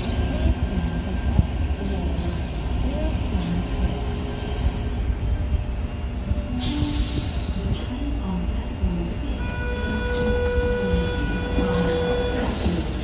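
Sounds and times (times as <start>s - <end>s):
train rolling and stopping: 0.0s - 13.0s.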